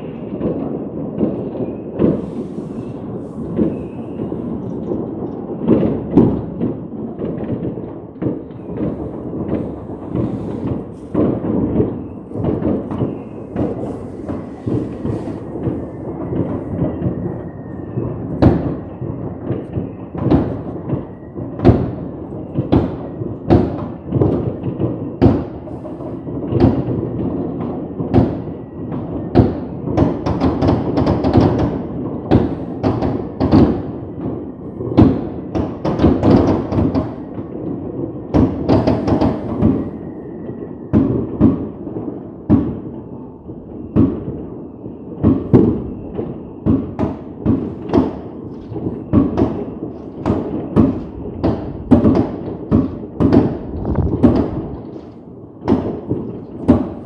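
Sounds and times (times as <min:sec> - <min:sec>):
sharp firework bangs: 0:00.0 - 0:40.2, 0:45.1 - 0:57.0
fireworks booming: 0:00.0 - 0:57.0.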